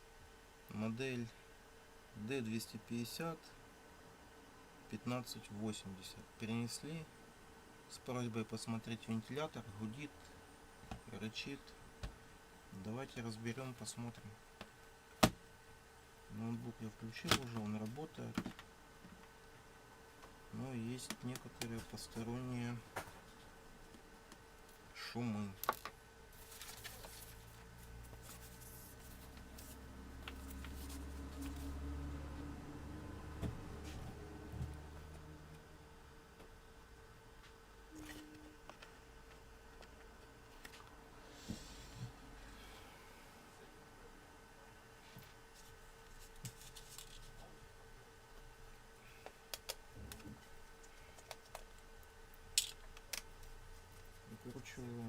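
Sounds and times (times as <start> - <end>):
laptop cooling fan humming: 0.0 - 55.0.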